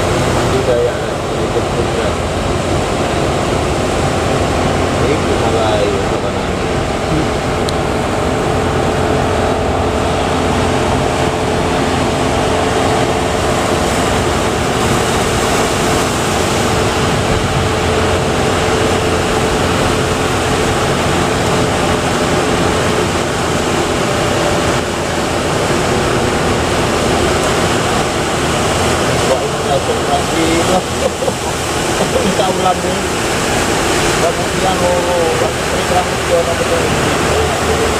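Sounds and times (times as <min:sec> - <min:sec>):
boat motor droning: 0:00.0 - 0:37.9
surf breaking: 0:00.0 - 0:37.9.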